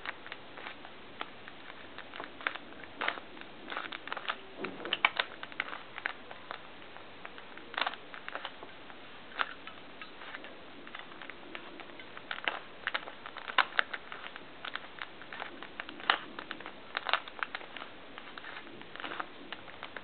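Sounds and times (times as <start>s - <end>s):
puzzle cube clicking: 0.0s - 8.6s, 9.3s - 20.0s.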